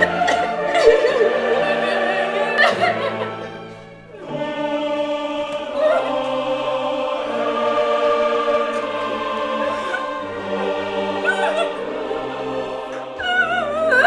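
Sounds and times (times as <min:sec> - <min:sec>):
choral operatic singing: 0:00.0 - 0:14.0.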